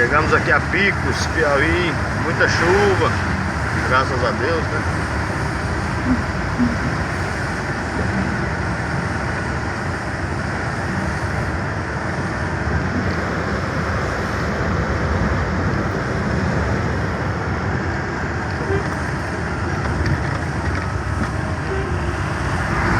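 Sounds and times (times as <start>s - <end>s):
truck engine and road noise: 0.0s - 22.9s.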